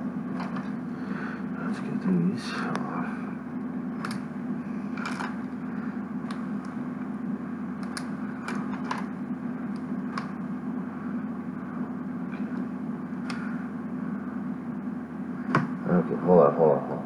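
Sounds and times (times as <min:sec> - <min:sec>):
steady low background hum: 0:00.0 - 0:17.0.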